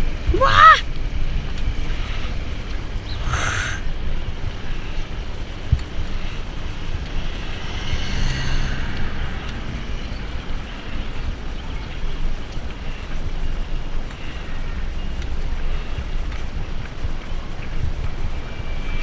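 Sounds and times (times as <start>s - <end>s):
bicycle tyre noise: 0.0s - 19.0s
wind rushing over microphone: 0.0s - 19.0s.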